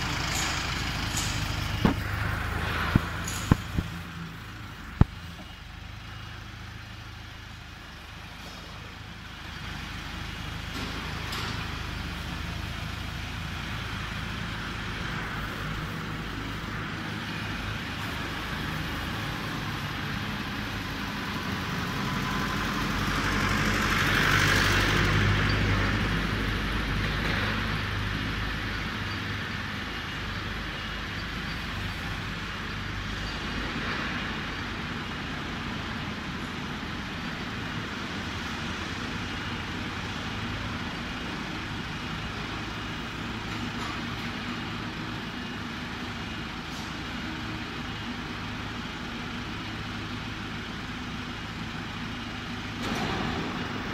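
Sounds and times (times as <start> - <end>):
loader engine running: 0.0 - 53.9.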